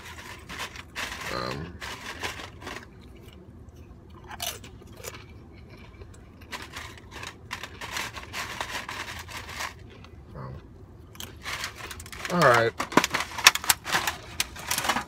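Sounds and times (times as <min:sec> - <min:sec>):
person crunching snack food: 0:00.0 - 0:15.0.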